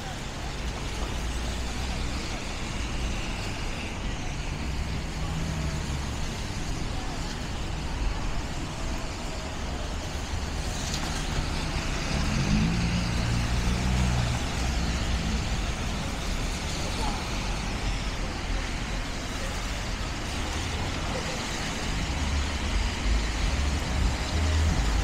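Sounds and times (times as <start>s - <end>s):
heavy vehicle engines droning: 0.0s - 25.0s
road noise: 0.0s - 25.0s.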